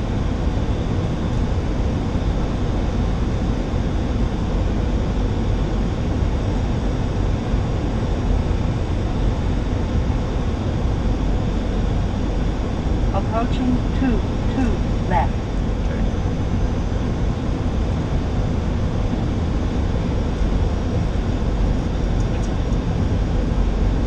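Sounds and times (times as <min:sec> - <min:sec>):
airflow and engine rumble: 0:00.0 - 0:24.0.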